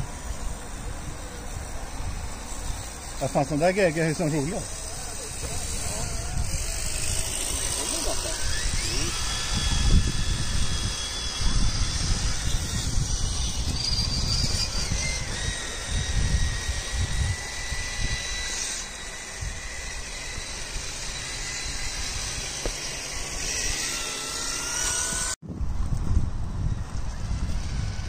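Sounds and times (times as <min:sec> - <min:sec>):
electric motor and gears whining: 0:00.0 - 0:28.0.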